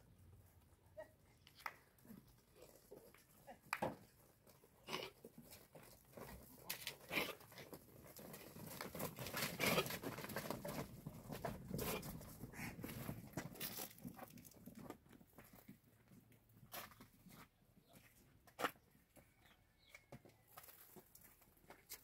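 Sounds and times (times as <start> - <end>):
hooves clattering on stony ground: 0.0 - 22.0.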